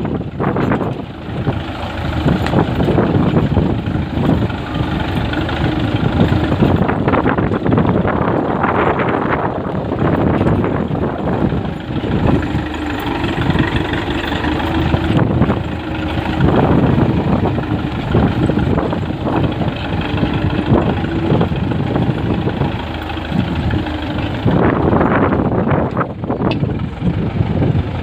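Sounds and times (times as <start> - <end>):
tractor diesel engine running: 0.0 - 28.0
wind buffeting microphone: 0.0 - 28.0.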